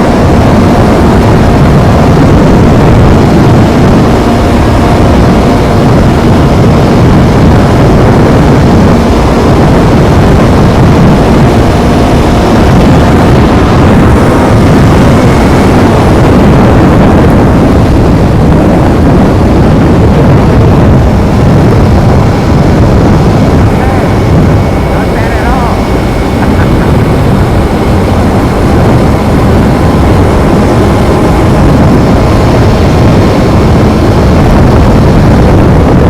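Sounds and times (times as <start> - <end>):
motorcycle engine running loudly: 0.0 - 36.0.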